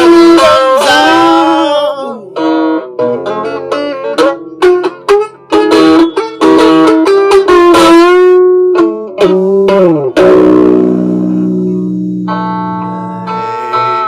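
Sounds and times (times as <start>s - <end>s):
electric guitar solo: 0.0s - 14.0s.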